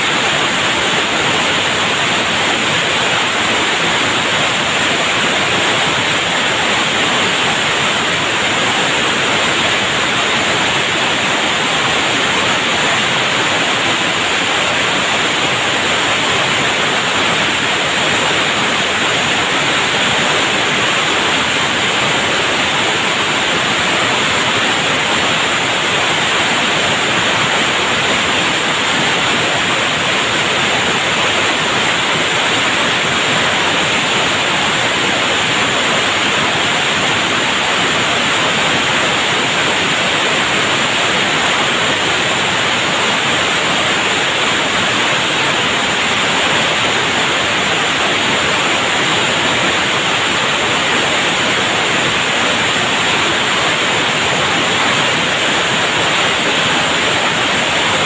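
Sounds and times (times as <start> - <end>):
loud steady gas hiss: 0.0 - 58.0.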